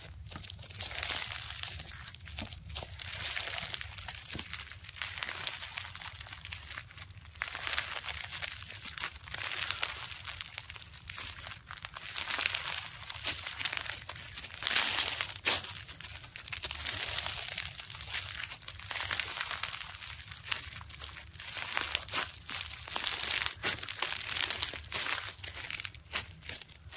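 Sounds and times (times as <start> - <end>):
slime crackling when squeezed: 0.0 - 26.9.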